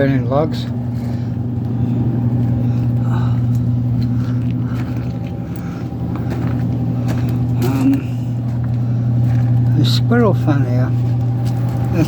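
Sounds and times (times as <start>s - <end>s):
furnace fan motor humming: 0.0s - 12.0s.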